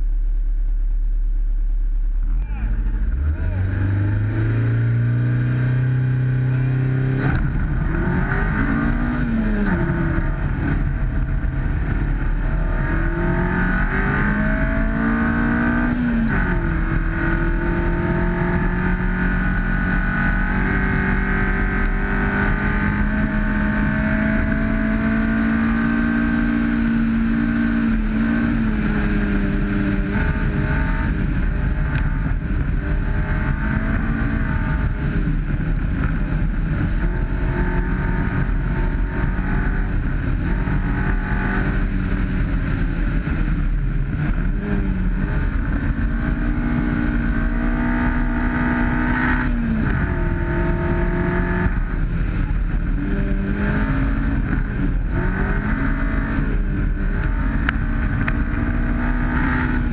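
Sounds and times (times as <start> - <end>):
car engine accelerating hard: 1.3 - 59.9.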